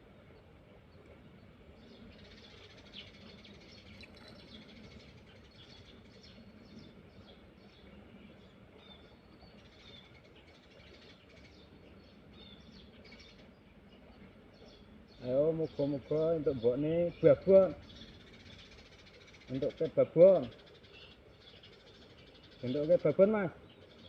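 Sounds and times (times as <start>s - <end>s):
faint birds chirping: 0.0s - 24.0s
low steady background hush: 0.0s - 24.0s.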